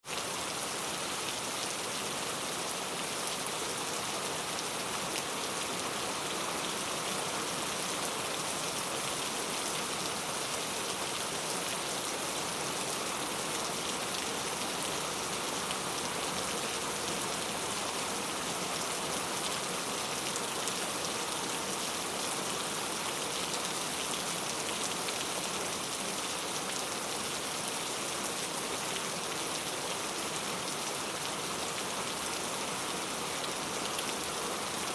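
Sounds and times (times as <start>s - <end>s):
heavy rain on hard surfaces: 0.0s - 34.9s.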